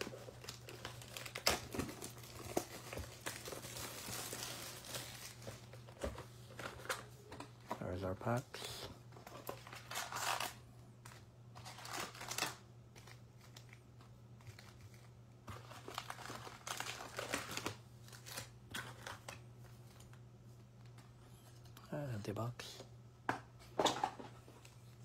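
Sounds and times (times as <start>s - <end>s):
foil card packs crinkling: 0.0s - 20.2s.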